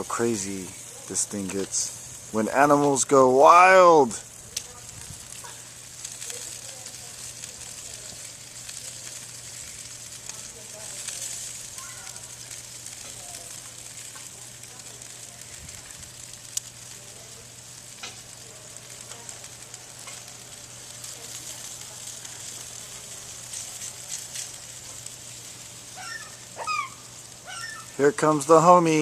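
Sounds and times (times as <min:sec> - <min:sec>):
fat popping and crackling: 0:00.0 - 0:29.0
meat sizzling on a grill: 0:00.0 - 0:29.0.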